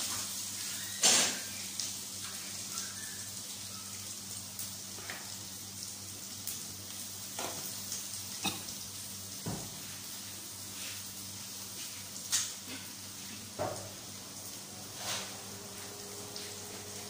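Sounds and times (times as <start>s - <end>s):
potatoes sizzling in oil: 0.0s - 17.0s.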